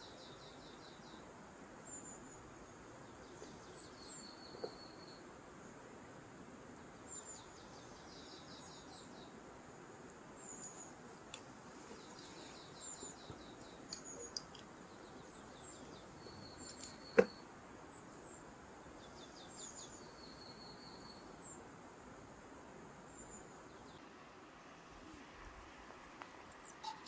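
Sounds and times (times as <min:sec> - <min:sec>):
small birds chirping and trilling: 0:00.0 - 0:05.9, 0:06.8 - 0:21.8, 0:23.0 - 0:24.0
faint outdoor hiss: 0:00.0 - 0:27.0.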